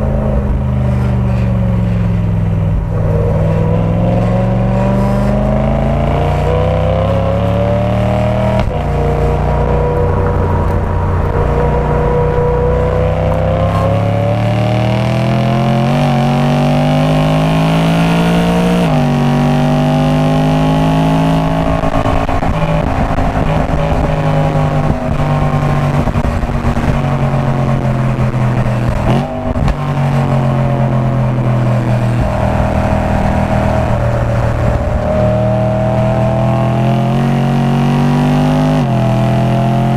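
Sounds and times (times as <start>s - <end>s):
car engine at full throttle: 0.0s - 39.9s.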